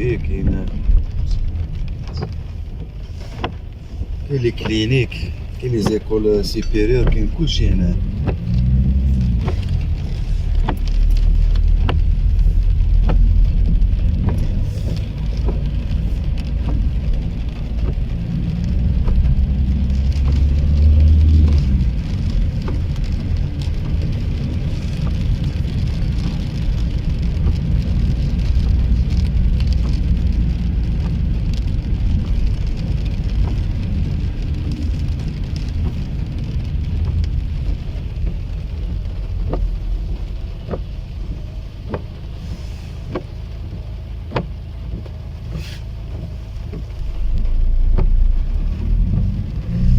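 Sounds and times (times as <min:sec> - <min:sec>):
car driving rumble: 0:00.0 - 0:49.9
rain pattering on a car: 0:00.0 - 0:49.9.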